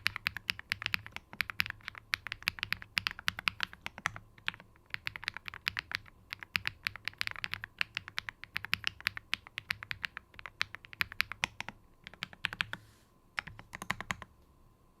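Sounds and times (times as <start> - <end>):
mechanical keyboard typing: 0.0 - 12.8, 13.4 - 14.3.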